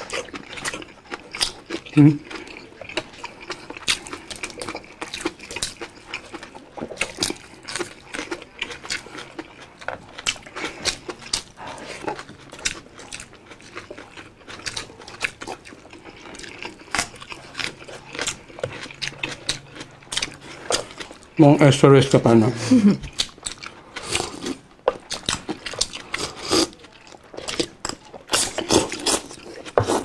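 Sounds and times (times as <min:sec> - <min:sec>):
wet chewing and lip smacking: 0:00.0 - 0:21.4, 0:23.0 - 0:30.0.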